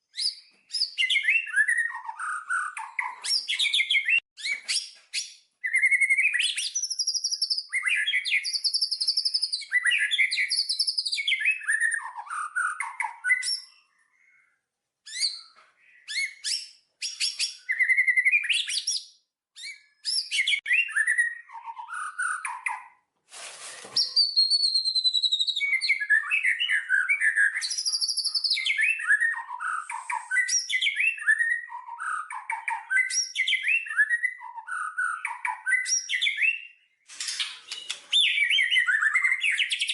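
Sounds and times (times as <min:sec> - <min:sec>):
songbirds chirping and singing: 0:00.1 - 0:23.0, 0:23.8 - 0:39.9.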